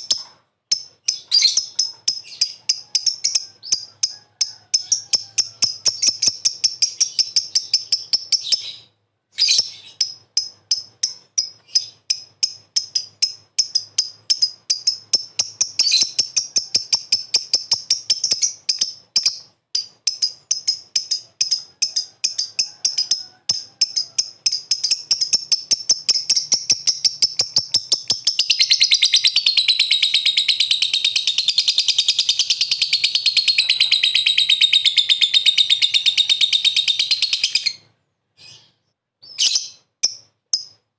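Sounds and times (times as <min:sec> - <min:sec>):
lovebird chirping: 0:00.0 - 0:40.8.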